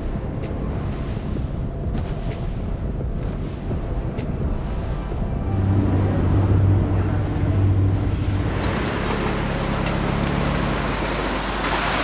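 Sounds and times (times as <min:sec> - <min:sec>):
outboard motor humming: 0:00.0 - 0:12.0
rushing water and spray: 0:00.0 - 0:12.0
wind: 0:00.0 - 0:12.0.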